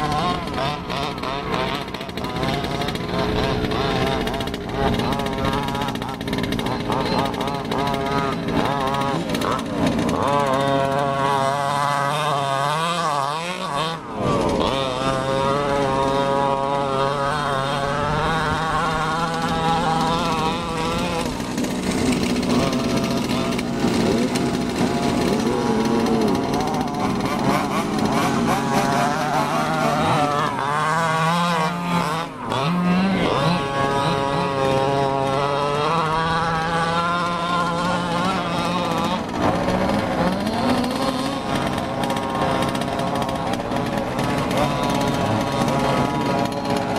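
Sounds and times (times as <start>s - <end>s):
small two-stroke engines revving: 0.0s - 46.9s.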